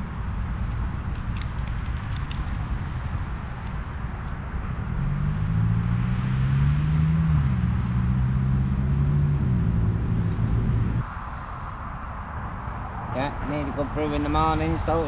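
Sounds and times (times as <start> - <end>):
vehicle engine humming: 0.0 - 12.5.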